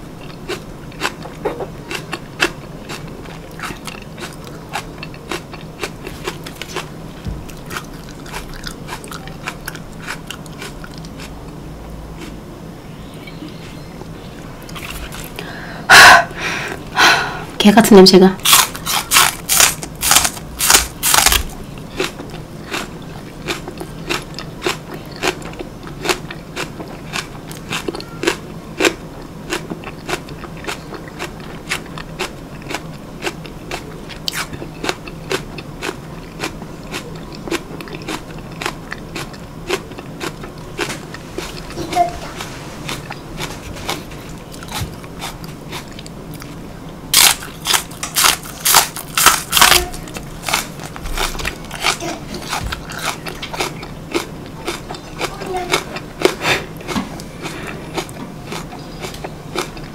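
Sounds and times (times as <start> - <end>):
green onion crunching: 0.2 - 11.6, 18.4 - 59.9.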